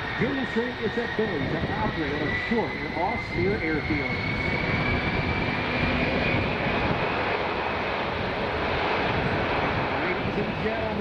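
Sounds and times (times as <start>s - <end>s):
jet engines roaring with high whine: 0.0s - 11.0s.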